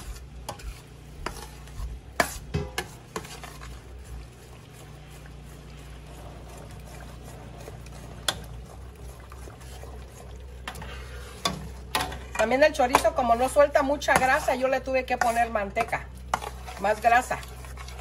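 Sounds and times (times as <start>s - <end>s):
metal spoon mashing beans in pot: 0.0s - 18.0s
steady low hum: 0.0s - 18.0s.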